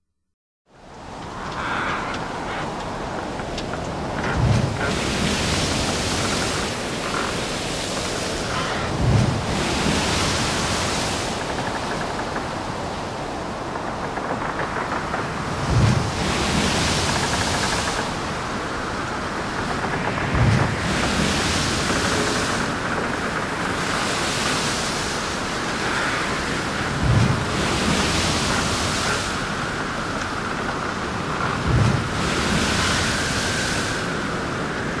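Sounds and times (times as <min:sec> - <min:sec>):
wind buffeting microphone: 0:00.9 - 0:35.0.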